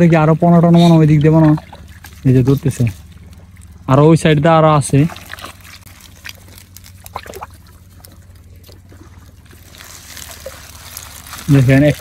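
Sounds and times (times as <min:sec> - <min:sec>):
water trickling and dripping: 0:00.0 - 0:12.0
small taps and splashes: 0:01.1 - 0:03.9, 0:04.9 - 0:12.0.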